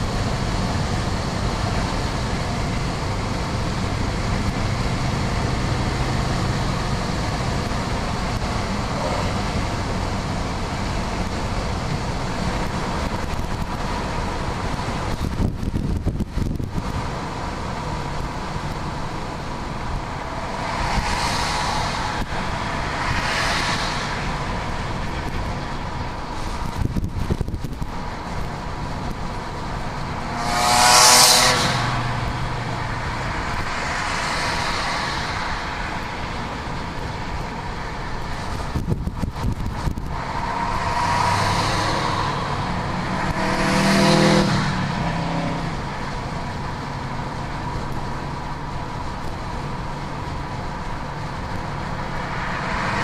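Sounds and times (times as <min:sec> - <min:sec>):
car engine drone: 0:00.0 - 0:53.0
wind noise: 0:00.0 - 0:53.0.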